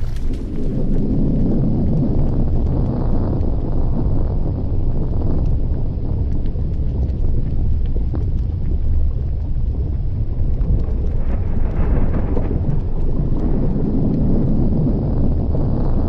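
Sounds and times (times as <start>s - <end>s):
deep volcanic rumble: 0.0s - 16.0s
faint crackles: 0.0s - 16.0s.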